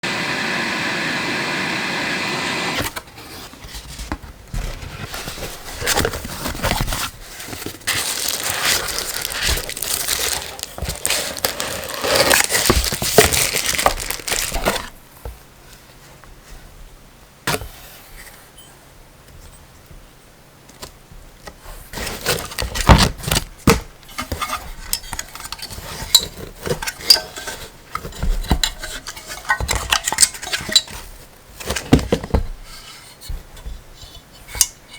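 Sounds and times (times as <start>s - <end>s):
rustling and crinkling: 2.9s - 16.9s, 19.3s - 34.9s.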